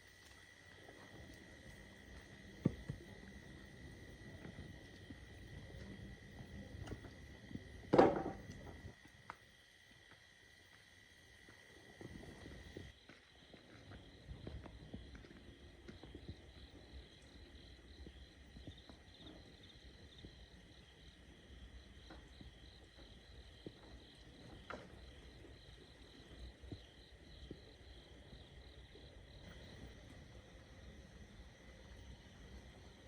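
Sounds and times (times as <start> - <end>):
crickets and insects chirring: 0.0 - 33.0.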